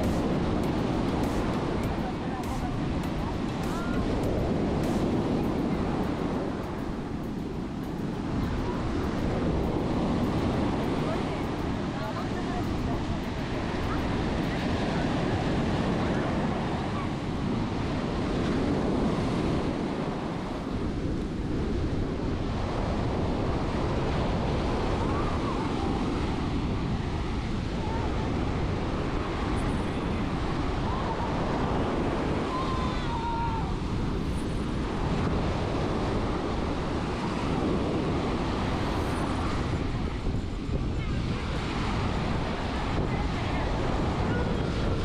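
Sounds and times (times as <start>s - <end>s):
ocean surf breaking: 0.0s - 45.0s
wind buffeting microphone: 0.0s - 45.0s.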